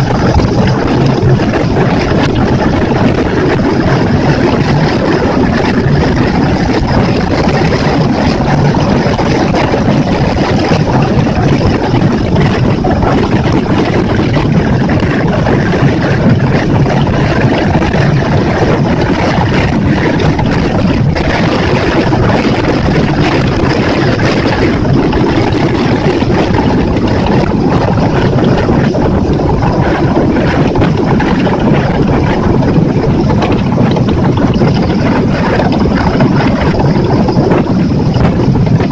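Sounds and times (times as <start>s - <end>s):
outboard motor running: 0.0s - 38.9s
water rushing past hull: 0.0s - 38.9s
wind on microphone: 0.0s - 38.9s.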